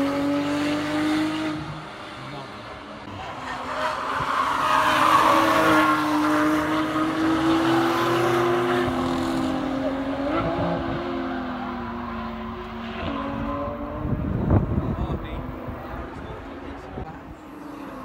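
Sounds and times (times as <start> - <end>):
race car engines at high revs: 0.0 - 18.0.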